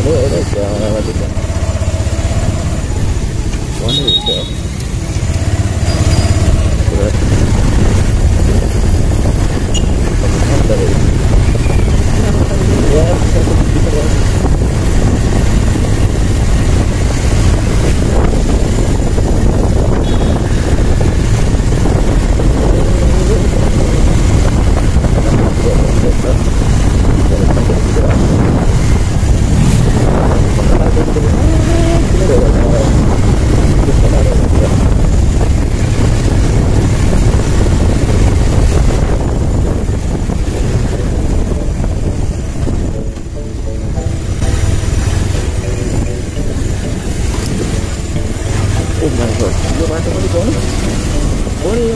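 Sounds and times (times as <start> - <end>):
motorcycle engine running: 0.0 - 51.9
road noise: 0.0 - 51.9
wind rushing on microphone: 5.8 - 51.9.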